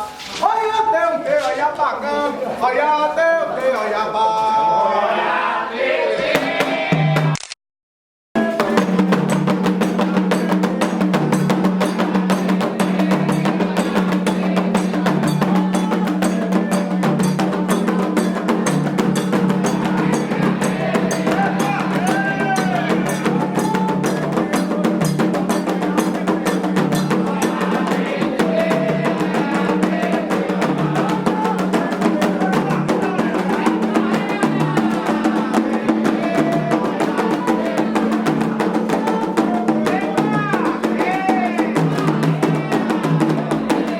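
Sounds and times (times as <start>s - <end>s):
voices singing: 1.3s - 7.4s, 8.4s - 43.9s
hand drums beating fast rhythm: 8.4s - 43.9s.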